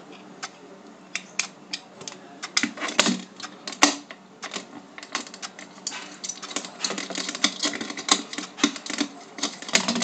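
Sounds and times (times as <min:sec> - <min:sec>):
pistol parts clicking and rattling: 0:01.2 - 0:10.0.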